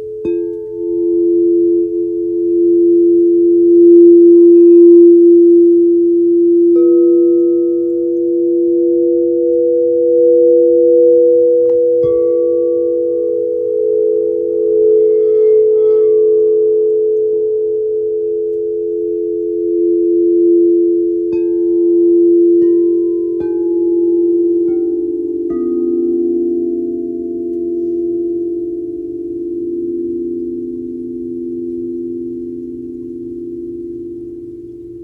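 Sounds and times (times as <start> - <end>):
singing bowl tones humming: 0.0 - 35.0.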